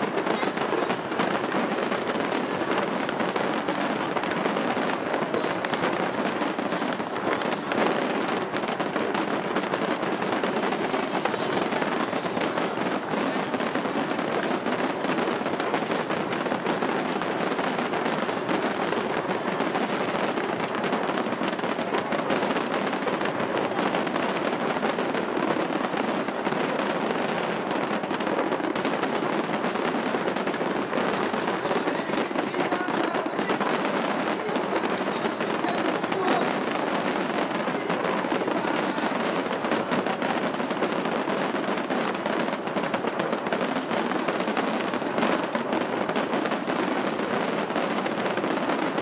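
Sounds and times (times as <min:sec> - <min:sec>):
fireworks crackling and popping: 0:00.0 - 0:49.0.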